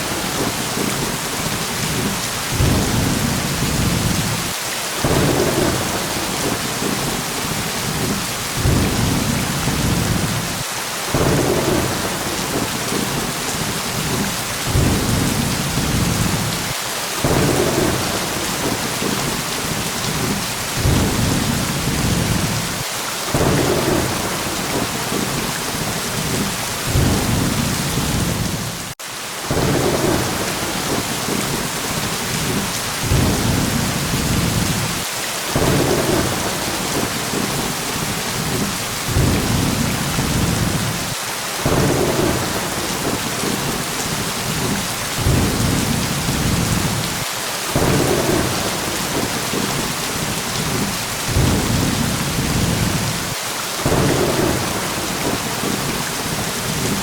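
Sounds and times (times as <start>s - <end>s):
low rolling thunder: 0.0s - 4.4s, 5.0s - 35.0s, 35.6s - 47.2s, 47.8s - 57.0s
steady rain falling: 0.0s - 57.0s.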